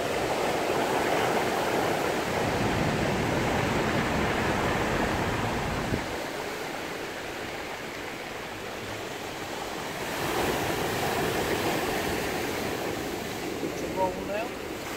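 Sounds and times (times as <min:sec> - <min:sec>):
ocean surf breaking on rocks: 0:00.0 - 0:14.9.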